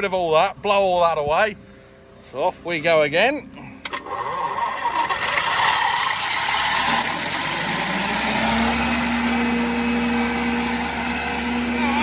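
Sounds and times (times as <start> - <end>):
engine humming: 0.0 - 12.0
fan rushing air: 0.0 - 12.0.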